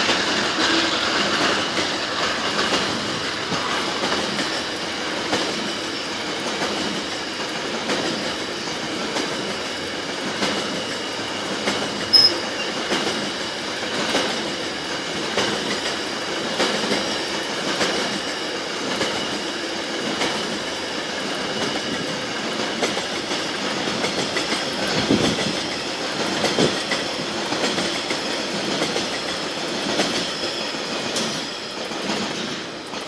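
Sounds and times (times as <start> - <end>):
high squeal of wheels on rails: 0.0 - 33.0
train wheels clacking over rail joints: 0.0 - 33.0.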